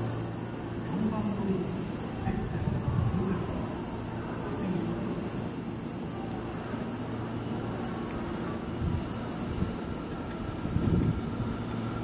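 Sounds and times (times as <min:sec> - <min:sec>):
cicadas chorus: 0:00.0 - 0:12.0
electric locomotive rumble: 0:00.0 - 0:12.0.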